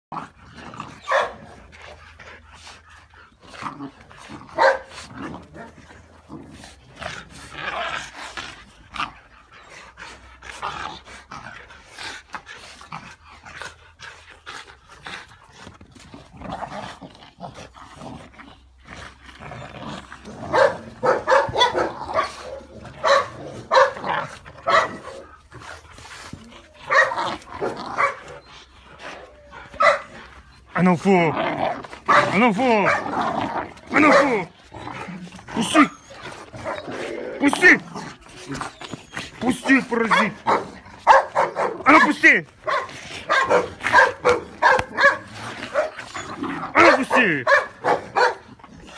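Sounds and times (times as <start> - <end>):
puppies barking and yipping: 0.9 - 11.2, 18.6 - 48.9.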